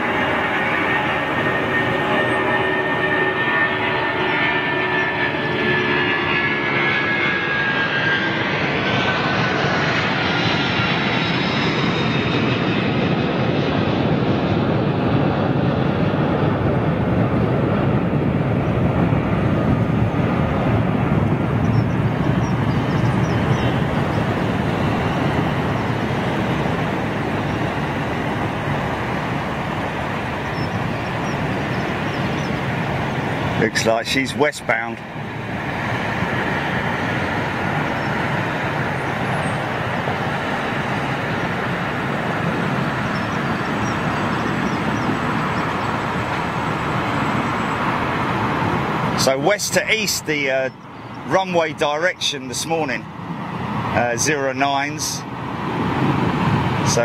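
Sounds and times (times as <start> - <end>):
deep jet rumble: 0.0 - 57.0
jet engine whine: 0.0 - 57.0.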